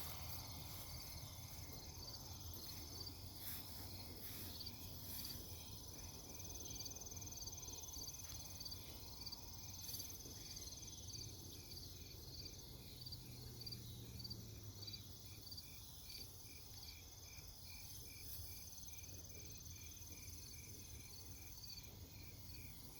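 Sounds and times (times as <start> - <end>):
insect chirps: 0.0 - 22.9.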